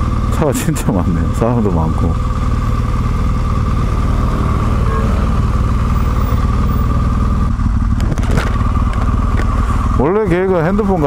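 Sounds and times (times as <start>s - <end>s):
motorcycle engine low throb: 0.0s - 11.0s.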